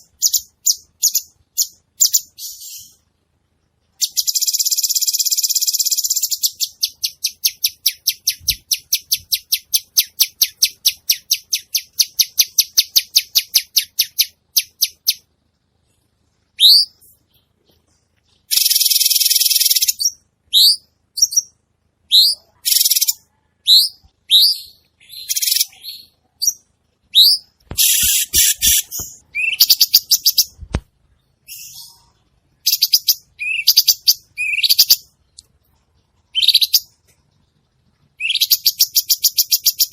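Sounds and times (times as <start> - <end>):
bird singing: 0.0 - 3.0, 4.0 - 15.3, 16.6 - 30.6, 31.2 - 35.5, 38.1 - 39.9.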